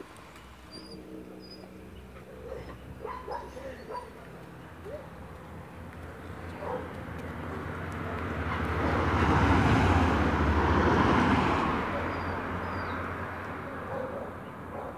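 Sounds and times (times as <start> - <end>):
vehicle passing by: 0.0 - 14.9.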